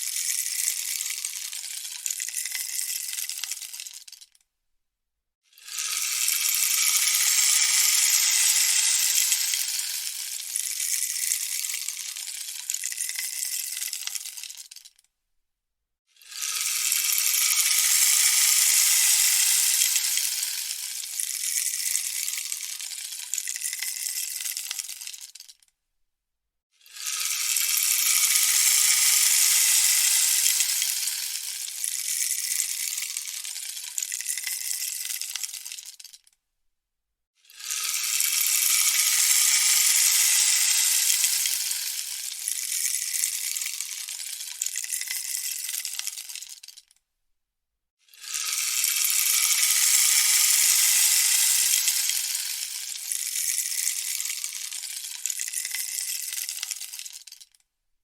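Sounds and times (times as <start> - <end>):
rainstick rattling trickle: 0.0 - 4.4, 5.6 - 15.1, 16.2 - 25.7, 26.8 - 36.4, 37.5 - 47.0, 48.1 - 57.6.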